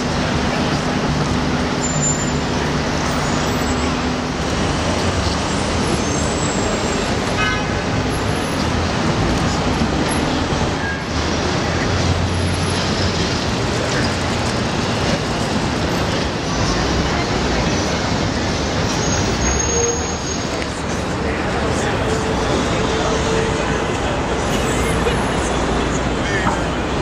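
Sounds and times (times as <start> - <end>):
street noise: 0.0 - 27.0
traffic engines rumbling: 0.0 - 27.0.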